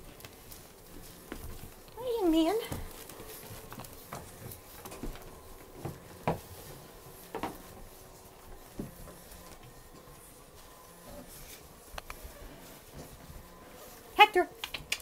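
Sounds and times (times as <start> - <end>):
paws and toys scuffling on rug: 0.0 - 14.6.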